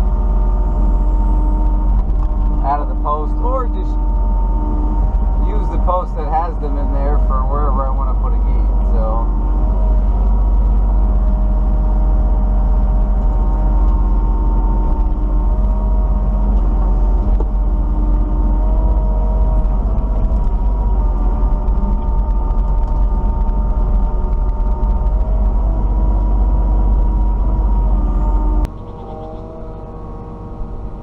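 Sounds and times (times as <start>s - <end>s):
excavator diesel rumble: 0.0s - 31.0s
hydraulic whining: 0.0s - 31.0s.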